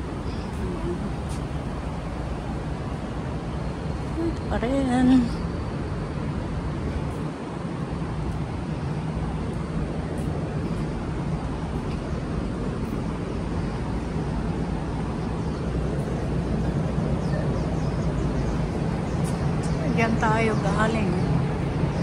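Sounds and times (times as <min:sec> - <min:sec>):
city background rumble: 0:00.0 - 0:22.0.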